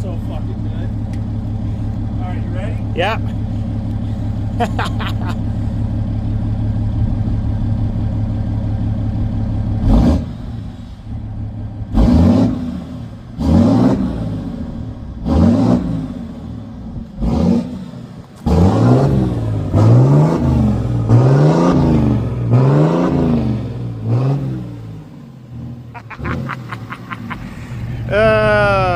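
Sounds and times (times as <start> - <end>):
diesel engine idling and revving: 0.0 - 28.9.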